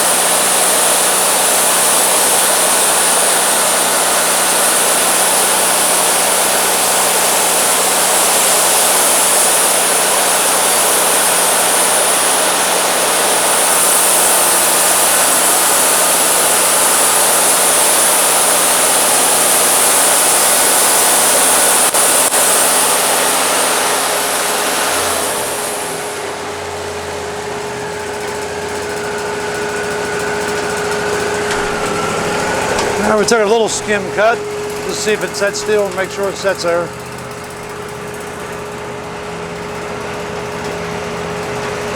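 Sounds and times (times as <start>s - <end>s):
band sawmill cutting wood: 0.0s - 41.9s
sawmill engine idling hum: 0.0s - 41.9s.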